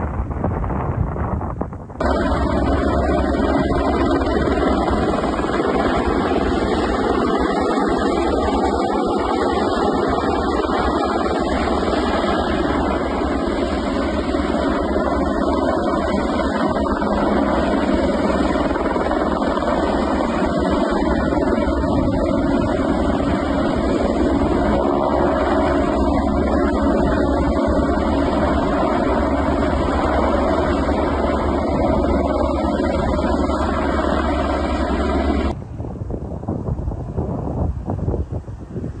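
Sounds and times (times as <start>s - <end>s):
helicopter engine and rotor: 2.0s - 35.6s.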